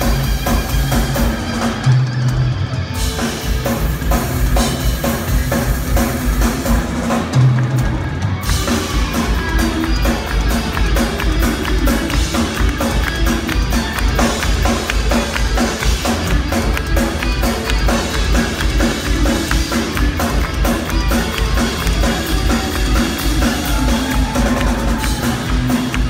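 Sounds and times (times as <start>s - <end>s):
rock drum kit: 0.0s - 26.0s.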